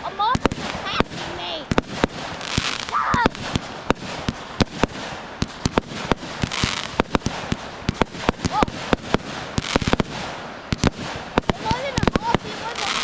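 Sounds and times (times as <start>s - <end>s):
fireworks banging: 0.0s - 13.0s
fireworks hissing crackle: 0.0s - 13.0s.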